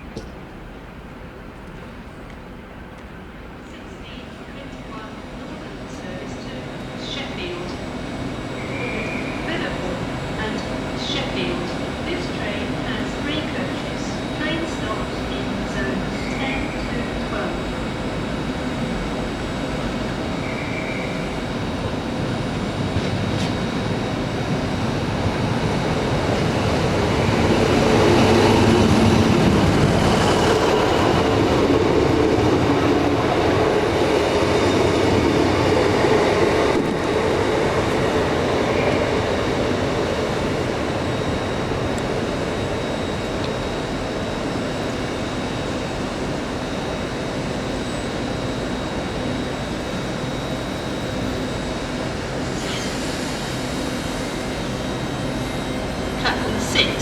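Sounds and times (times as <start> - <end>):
train passing rumble: 0.0 - 57.0.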